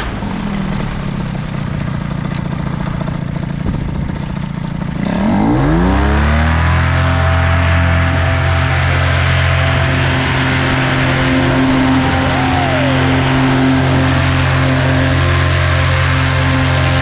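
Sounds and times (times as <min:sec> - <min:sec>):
paramotor engine and propeller: 0:00.0 - 0:17.0.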